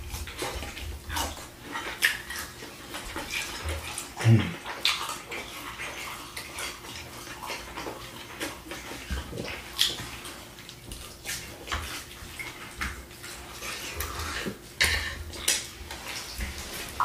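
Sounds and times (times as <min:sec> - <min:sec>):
wet chewing and lip smacking: 0:00.0 - 0:17.0.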